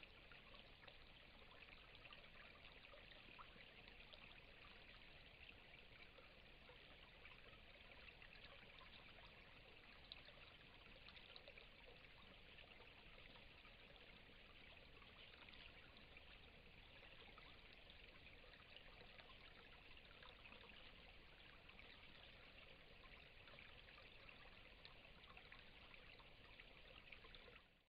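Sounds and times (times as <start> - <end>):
faint steady hiss: 0.0 - 27.9.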